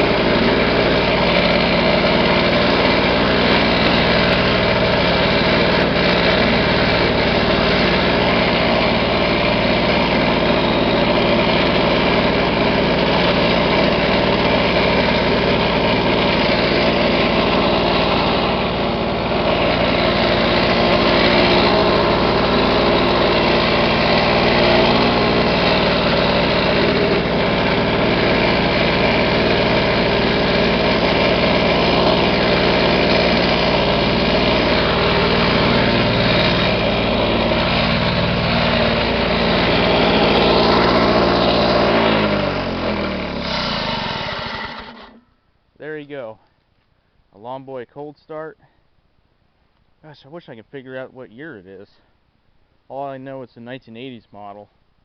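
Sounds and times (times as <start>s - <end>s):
push mower engine running: 0.0s - 45.4s.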